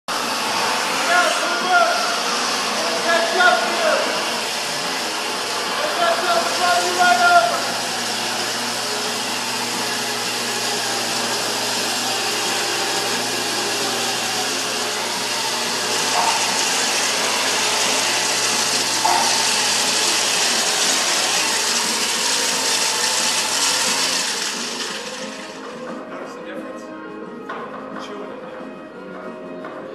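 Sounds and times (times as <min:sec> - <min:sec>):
circular saw cutting timber: 0:00.1 - 0:26.0.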